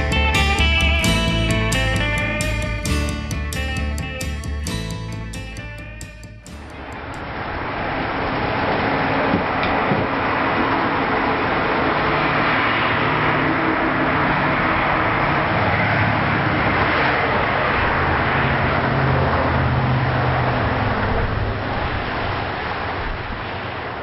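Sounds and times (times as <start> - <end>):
low engine hum: 0.0 - 24.0
road vehicle rush: 0.0 - 24.0.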